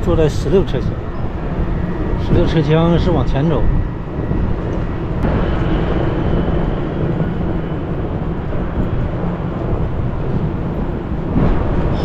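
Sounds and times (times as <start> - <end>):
train fans whooshing hum: 0.0 - 12.0.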